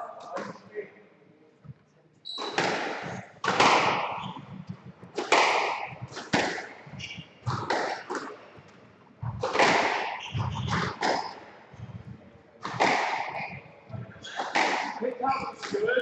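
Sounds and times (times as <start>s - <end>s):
squash ball cracking off rackets: 2.4s - 15.9s.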